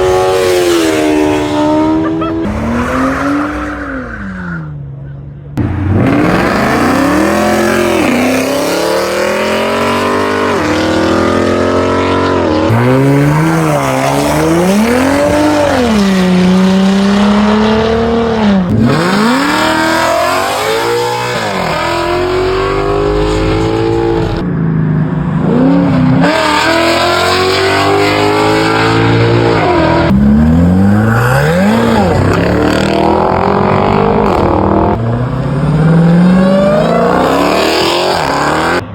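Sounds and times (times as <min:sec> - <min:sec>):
car engines revving hard: 0:00.0 - 0:04.6, 0:05.6 - 0:38.9.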